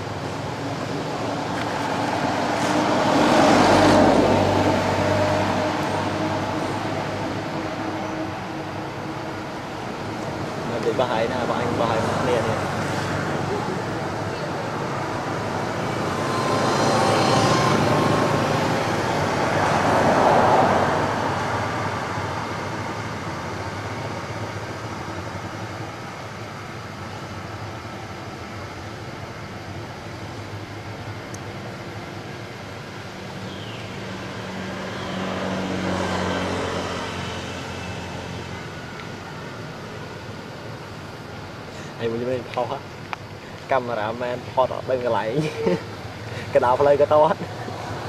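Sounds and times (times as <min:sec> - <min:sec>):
background traffic noise: 0:00.0 - 0:48.0
vehicles passing: 0:00.0 - 0:48.0.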